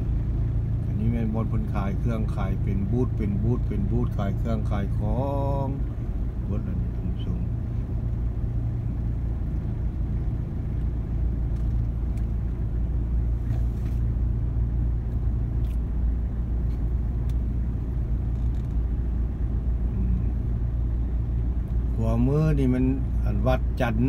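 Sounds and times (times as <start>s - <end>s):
vehicle engine rumble and road noise: 0.0s - 24.0s.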